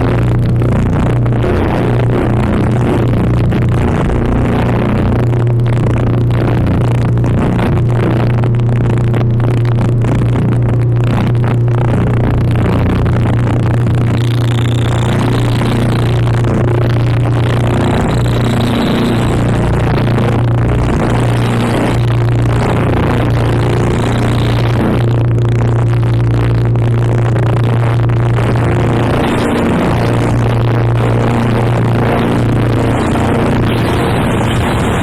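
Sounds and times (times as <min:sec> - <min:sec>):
dense machine-like noise: 0:00.0 - 0:35.0
steady low drone: 0:00.0 - 0:35.0.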